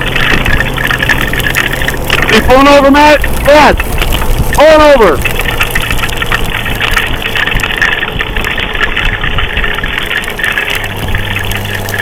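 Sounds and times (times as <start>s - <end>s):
rain ticking: 0.0s - 12.0s.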